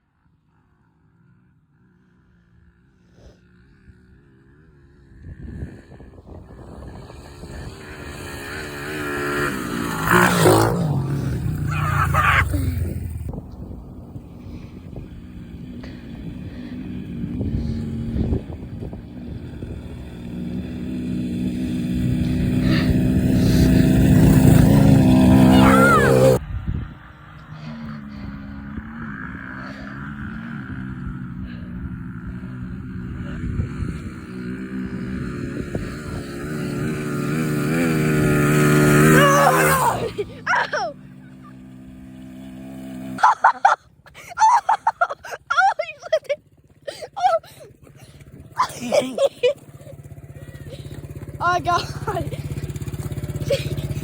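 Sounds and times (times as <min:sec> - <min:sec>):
dirt bike engine running: 0:01.1 - 0:54.0.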